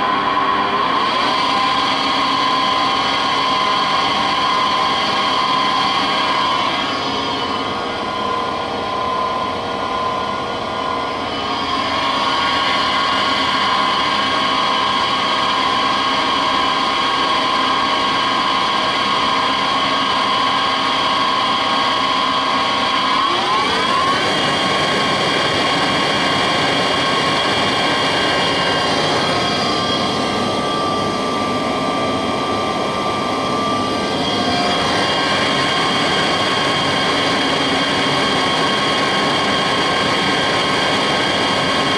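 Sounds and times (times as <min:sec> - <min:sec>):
lathe mechanical whine: 0:00.0 - 0:41.9.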